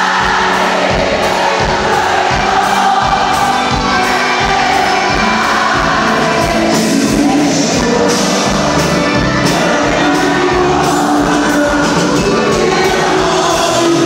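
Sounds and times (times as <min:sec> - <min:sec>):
drum beat: 0:00.0 - 0:14.0
live band music: 0:00.0 - 0:14.0
person singing: 0:00.0 - 0:14.0.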